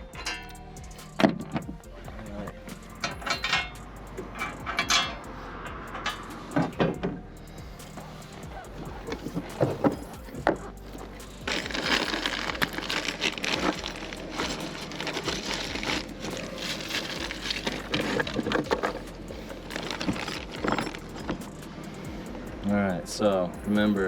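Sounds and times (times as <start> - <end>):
metal parts clicking and rattling: 0.0 - 1.8, 2.4 - 22.1.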